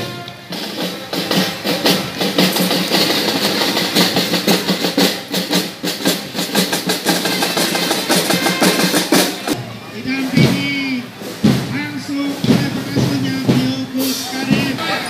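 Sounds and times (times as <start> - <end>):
marching snare and bass drums: 0.0 - 15.0.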